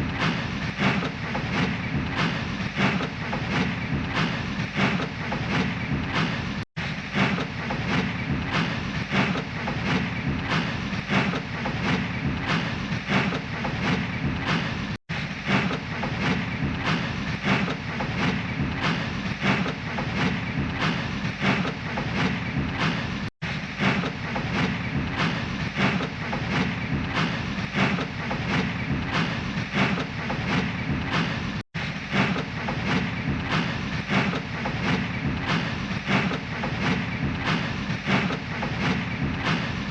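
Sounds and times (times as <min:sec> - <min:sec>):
steam train chuffing: 0:00.0 - 0:39.9.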